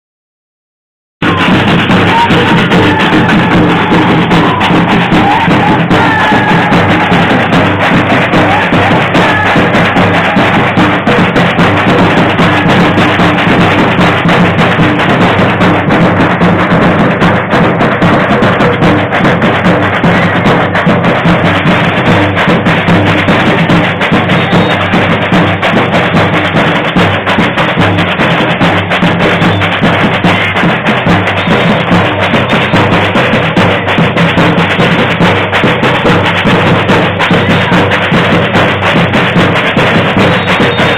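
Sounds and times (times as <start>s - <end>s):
bass drums: 1.2s - 40.9s
samba percussion ensemble: 1.2s - 40.9s.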